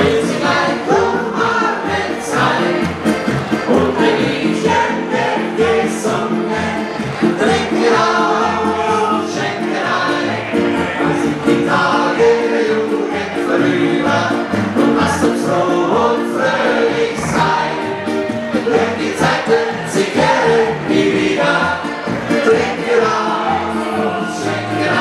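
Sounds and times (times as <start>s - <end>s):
women singing a folk song: 0.0s - 3.0s, 3.6s - 25.0s
accordion: 0.0s - 25.0s.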